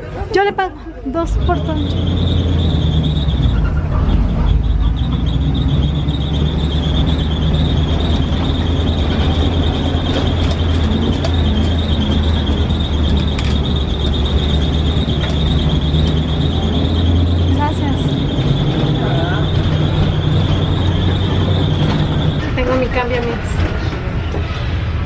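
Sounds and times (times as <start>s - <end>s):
bus engine and road rumble: 0.0s - 25.0s
high-pitched whine: 1.2s - 25.0s
rattling: 1.8s - 24.6s.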